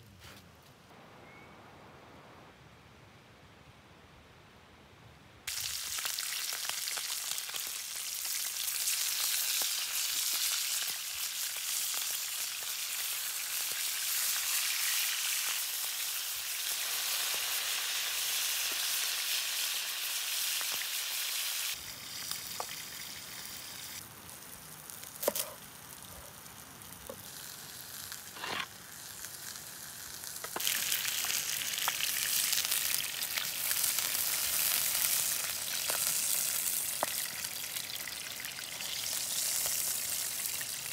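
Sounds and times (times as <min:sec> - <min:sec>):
meat sizzling in oil: 0:05.5 - 0:40.9.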